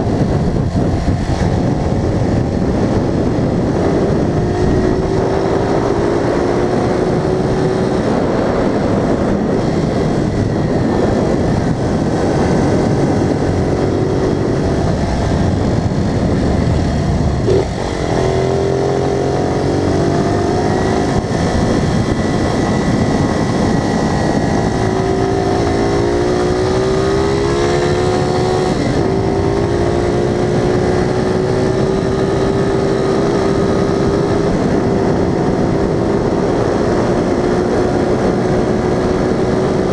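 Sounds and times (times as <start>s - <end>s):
road and wind noise: 0.0s - 39.9s
vehicle engine revving: 0.0s - 39.9s.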